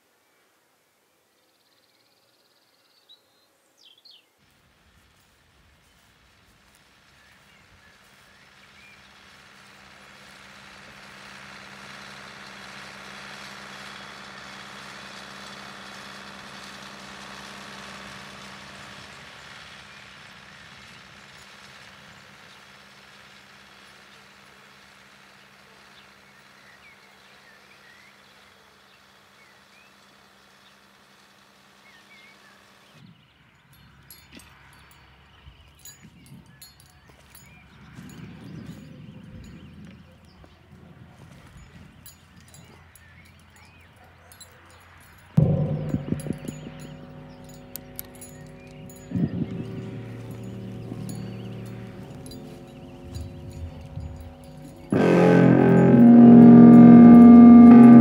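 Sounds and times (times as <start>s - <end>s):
vehicle engine humming: 4.5s - 32.3s, 33.7s - 58.0s.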